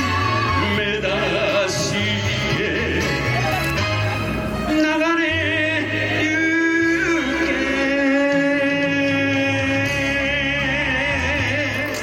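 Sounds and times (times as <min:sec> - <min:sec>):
stage band music: 0:00.0 - 0:12.0.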